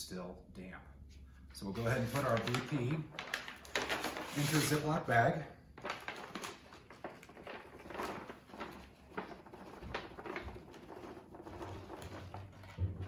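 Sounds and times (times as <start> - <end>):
paper and plastic bag rustling: 1.6 - 13.0.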